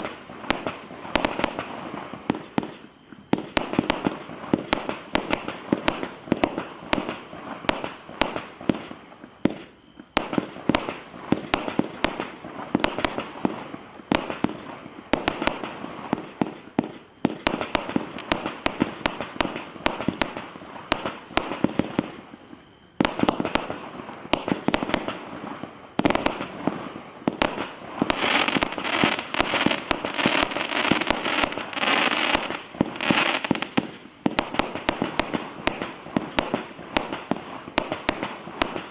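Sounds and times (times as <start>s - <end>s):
firework bangs with crackle: 0.0s - 38.9s.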